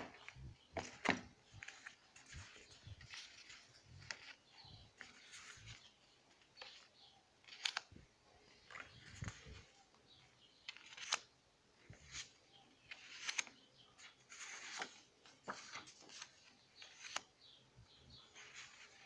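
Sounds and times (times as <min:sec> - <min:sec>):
paper cards rustling: 0:00.0 - 0:10.0, 0:10.6 - 0:17.4, 0:18.2 - 0:19.0.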